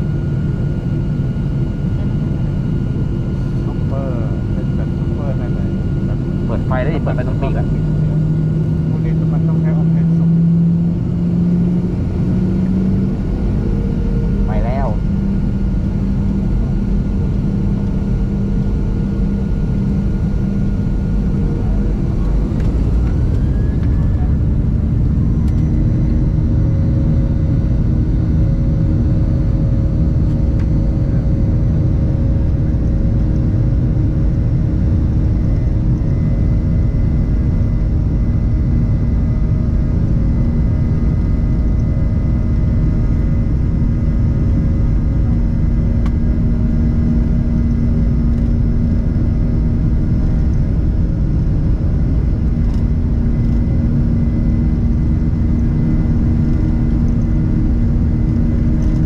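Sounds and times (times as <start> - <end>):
airliner engines rumbling: 0.0 - 59.0
steady engine hum tones: 0.0 - 59.0.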